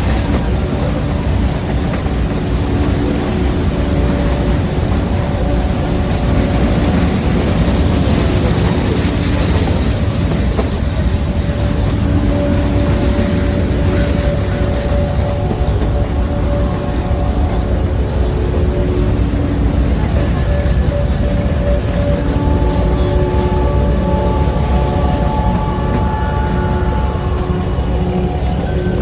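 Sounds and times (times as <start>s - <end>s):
wheel clatter on rails: 0.0s - 27.6s
faint steady tones: 0.0s - 29.0s
train rumbling: 0.0s - 29.0s.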